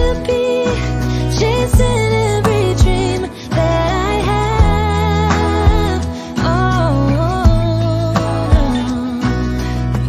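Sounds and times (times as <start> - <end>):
pop song with singer: 0.0 - 10.0.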